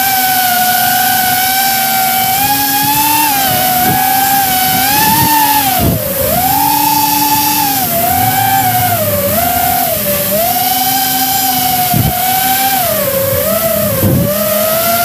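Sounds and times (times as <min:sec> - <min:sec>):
drone motors whining: 0:00.0 - 0:15.0
faint sweeping whine: 0:00.0 - 0:15.0.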